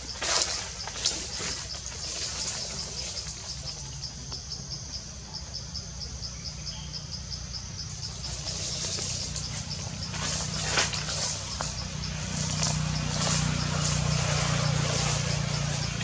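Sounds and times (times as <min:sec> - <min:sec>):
cricket chirping: 0:00.0 - 0:16.0
low steady rumble: 0:01.1 - 0:16.0.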